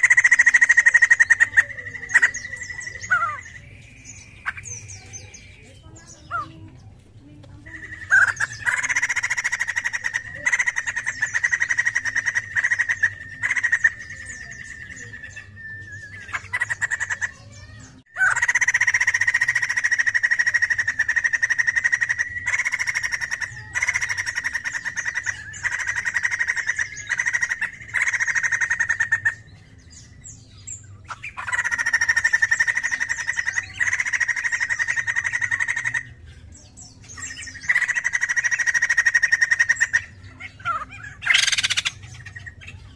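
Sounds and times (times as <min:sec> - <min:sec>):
bird singing trilled phrases: 0:00.0 - 0:42.9.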